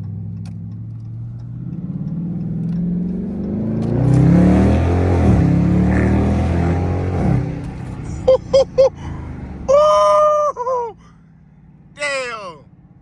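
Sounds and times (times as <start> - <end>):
car engine accelerating hard: 0.0 - 10.8.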